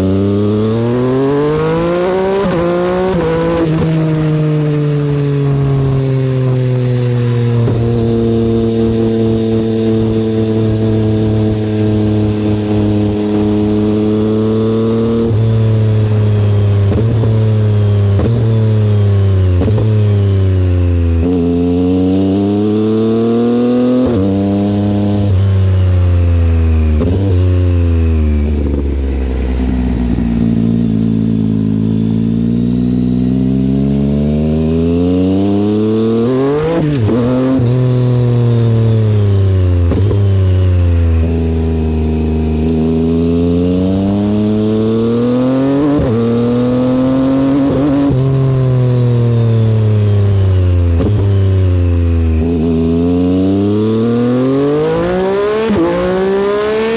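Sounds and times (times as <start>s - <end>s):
motorcycle engine with gear changes: 0.0s - 56.9s.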